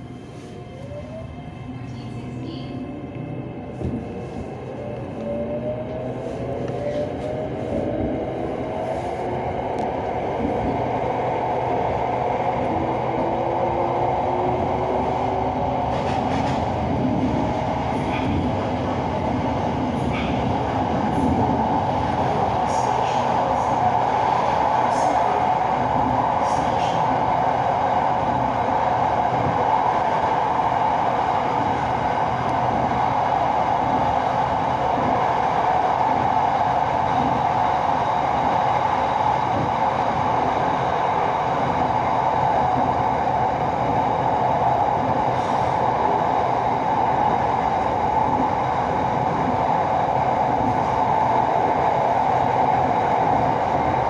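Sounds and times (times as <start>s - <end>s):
train running noise with hum: 0.0s - 54.0s.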